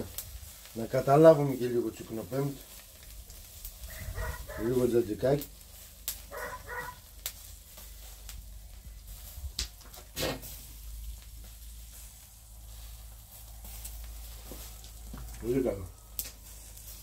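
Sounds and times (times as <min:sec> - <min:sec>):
meat sizzling on grill: 0:00.0 - 0:17.0.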